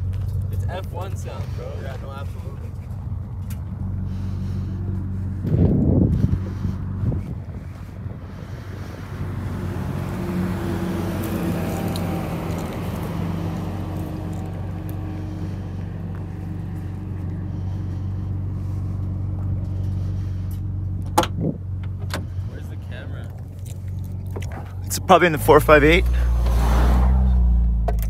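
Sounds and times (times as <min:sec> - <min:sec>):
sports car engine idling: 0:00.0 - 0:26.5.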